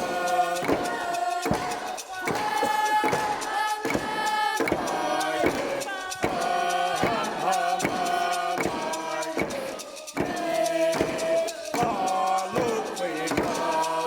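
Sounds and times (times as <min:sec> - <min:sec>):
steady struck beat: 0:00.0 - 0:14.0
voices chanting long notes: 0:00.0 - 0:14.0.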